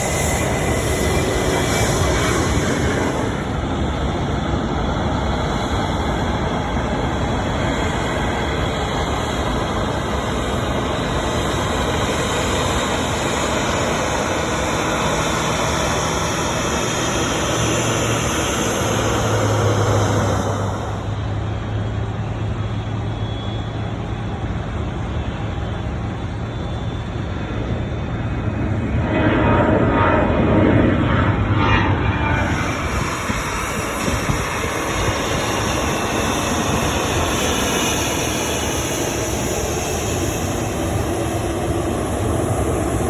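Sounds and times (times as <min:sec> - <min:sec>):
jet engine rushing: 0:00.0 - 0:43.0
steady low hum: 0:00.0 - 0:43.0.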